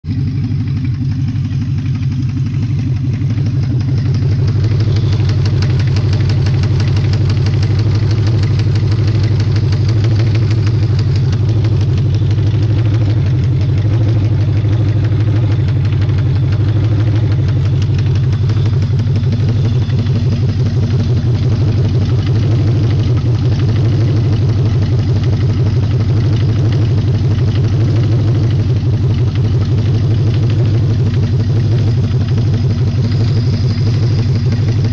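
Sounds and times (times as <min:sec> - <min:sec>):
engine idling: 0:00.0 - 0:34.9
engine ticking clatter: 0:00.0 - 0:34.9.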